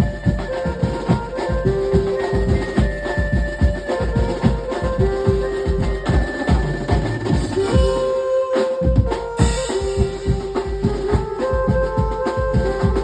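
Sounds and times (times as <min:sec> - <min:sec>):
fast dense drum beat: 0:00.0 - 0:08.2, 0:08.8 - 0:13.0
banjo melody: 0:00.0 - 0:13.0.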